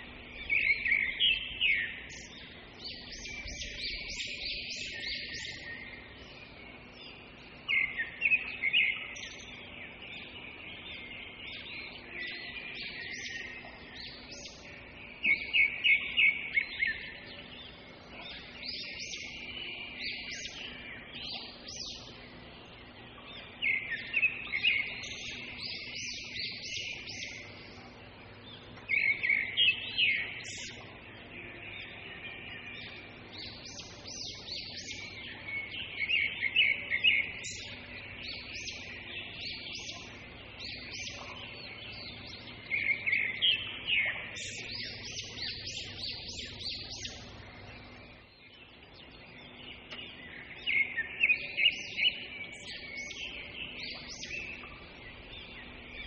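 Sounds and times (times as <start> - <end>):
faint low hum: 0.0 - 56.0
small birds chirping: 0.0 - 56.0.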